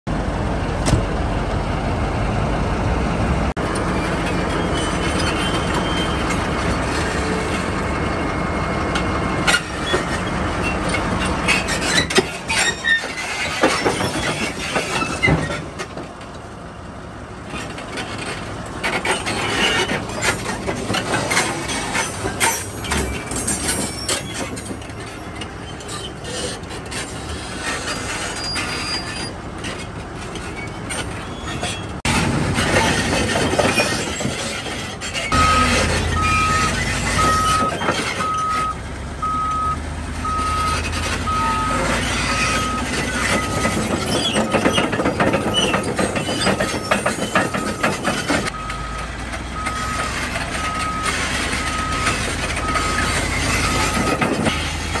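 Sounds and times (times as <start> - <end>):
bulldozer diesel engine running: 0.1 - 55.0
steel tracks clanking and squealing: 3.6 - 55.0.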